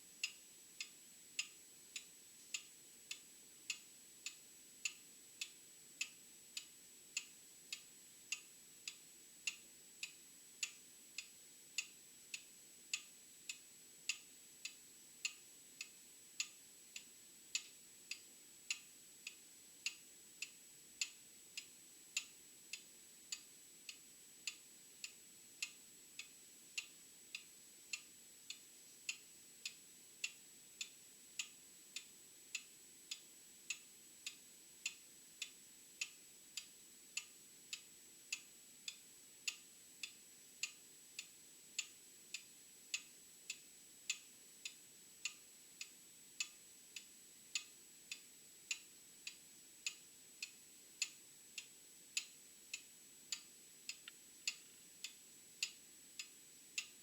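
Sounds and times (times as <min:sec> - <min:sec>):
mechanical clock ticking: 0:00.2 - 0:57.0.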